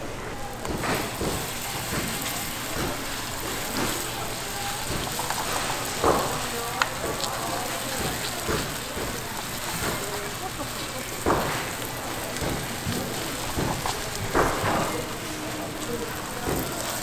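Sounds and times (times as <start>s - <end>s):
batter sizzling in hot oil: 0.4s - 17.0s.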